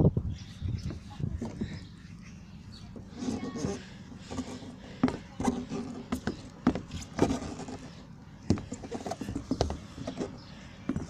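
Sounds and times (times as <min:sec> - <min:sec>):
rustling on microphone: 0:00.5 - 0:11.0.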